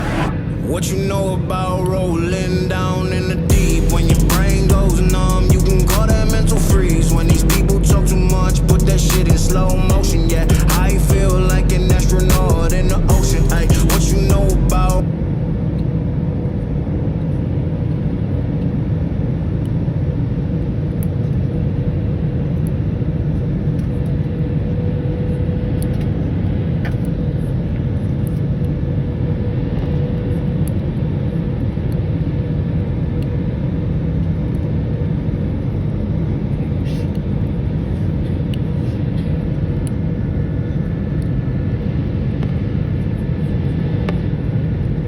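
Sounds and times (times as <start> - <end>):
airliner cabin rumble: 0.0 - 19.9, 21.2 - 45.0
faint steady hum: 0.0 - 45.0.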